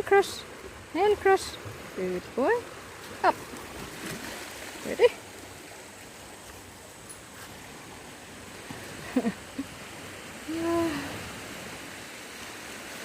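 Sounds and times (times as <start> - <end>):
sea waves washing on beach: 0.0 - 13.0.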